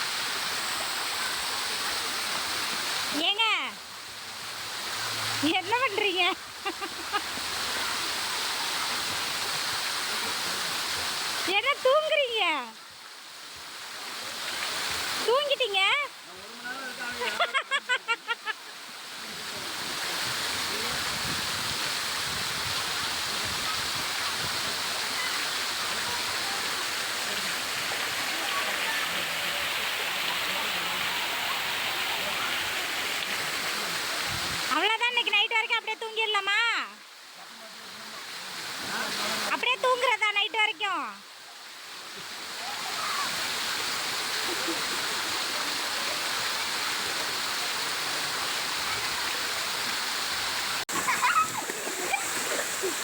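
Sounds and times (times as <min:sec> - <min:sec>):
water feature rushing: 0:00.0 - 0:53.0.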